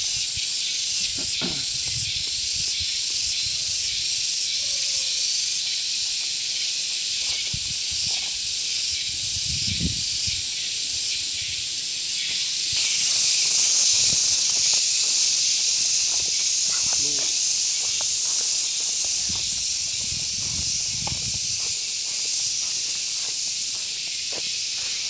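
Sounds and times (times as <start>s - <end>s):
high-pitched outdoor hiss: 0.0s - 25.0s.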